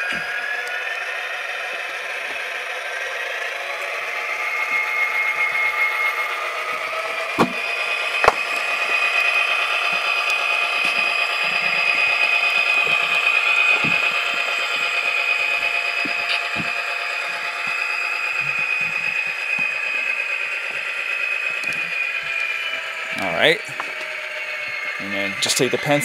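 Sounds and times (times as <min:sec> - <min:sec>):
diesel engine sound through small speakers: 0:00.0 - 0:26.0.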